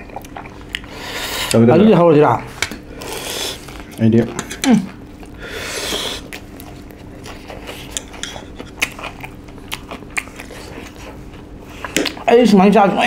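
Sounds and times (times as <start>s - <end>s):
chewing fried chicken: 0.0s - 1.6s, 2.8s - 12.3s.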